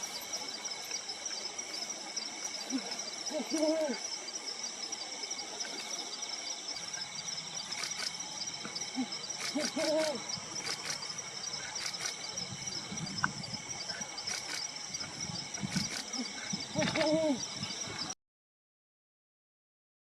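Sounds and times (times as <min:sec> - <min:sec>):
high insect drone: 0:00.0 - 0:18.2.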